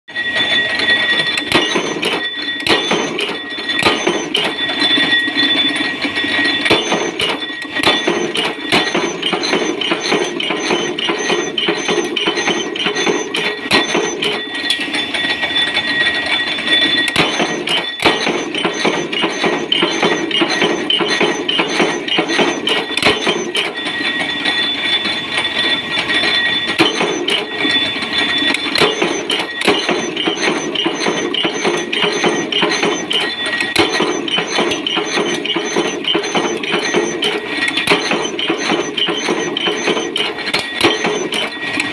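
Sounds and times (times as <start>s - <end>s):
high ringing note: 0.1s - 41.9s
power press clattering: 0.5s - 15.0s, 16.9s - 25.2s, 26.1s - 41.9s.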